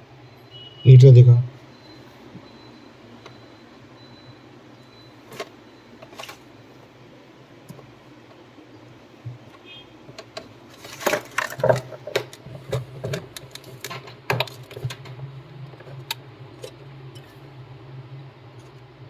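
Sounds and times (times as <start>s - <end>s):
steady low hum: 1.2s - 19.0s.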